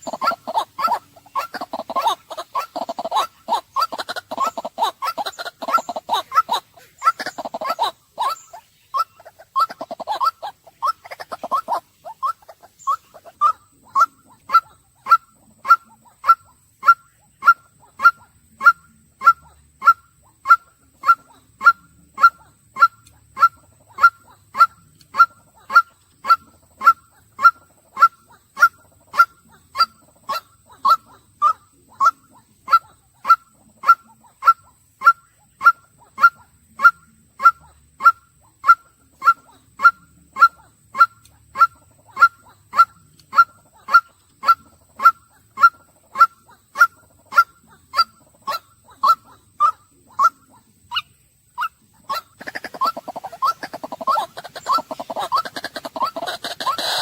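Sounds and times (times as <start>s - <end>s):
waterhen calling: 0.0s - 57.0s.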